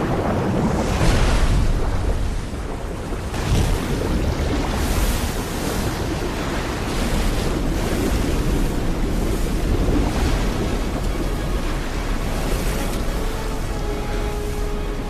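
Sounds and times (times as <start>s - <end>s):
water rushing and surging: 0.0s - 15.0s.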